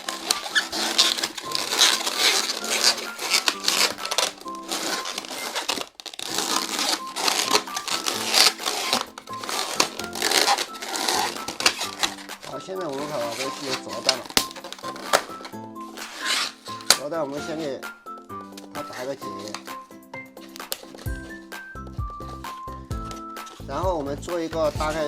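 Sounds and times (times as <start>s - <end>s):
background music: 0.0s - 25.0s
balloon squeaking and rubbing: 0.0s - 25.0s.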